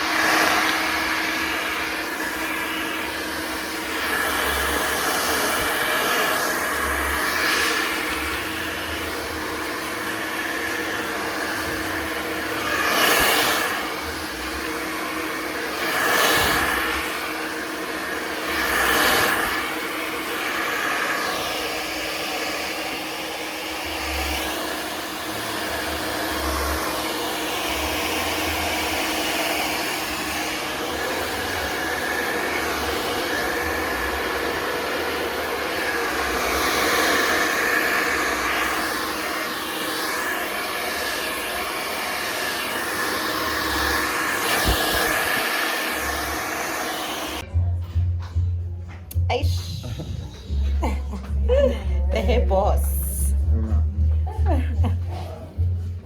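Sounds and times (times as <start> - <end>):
hair dryer blowing: 0.0 - 47.5, 49.1 - 53.4.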